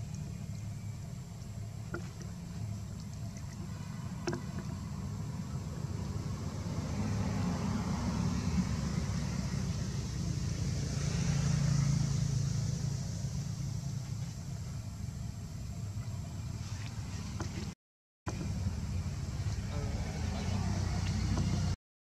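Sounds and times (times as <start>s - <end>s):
vehicle passing: 0.0s - 17.8s, 18.4s - 21.8s.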